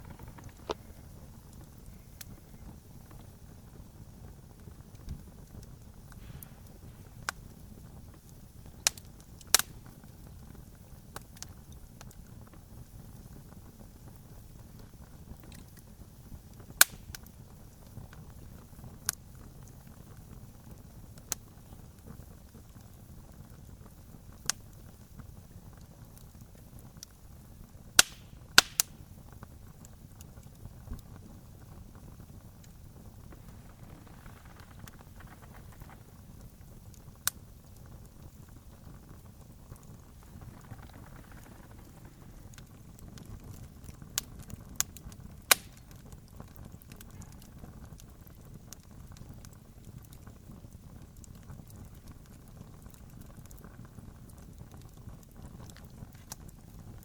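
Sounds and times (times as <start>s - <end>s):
campfire crackling pops: 0.0s - 57.0s
low rumble of burning fire: 0.0s - 57.0s.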